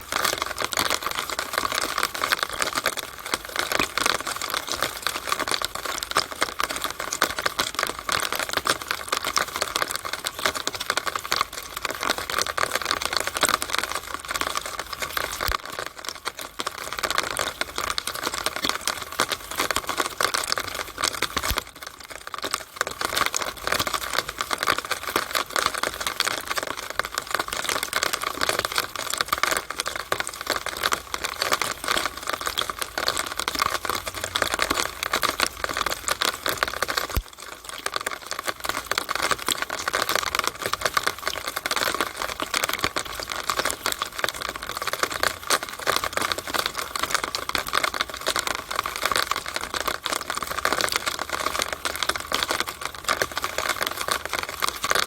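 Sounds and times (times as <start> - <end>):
rainwater dripping in downspout: 0.0 - 55.0.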